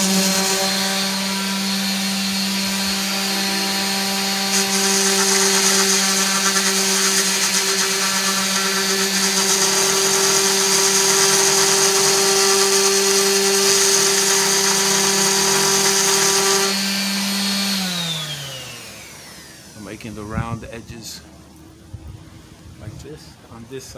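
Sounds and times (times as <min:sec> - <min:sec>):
sander winding down: 0:00.0 - 0:20.9
orbital sander sanding wood: 0:00.0 - 0:21.2.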